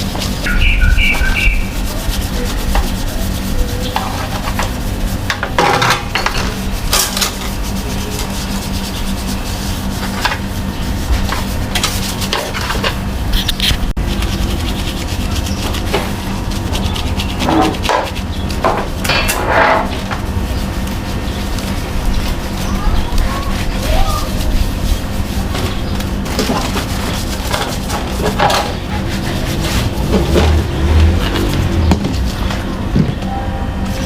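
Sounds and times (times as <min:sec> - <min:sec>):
rubbing and scraping strokes: 0:00.0 - 0:32.7
steady low hum: 0:00.0 - 0:34.0.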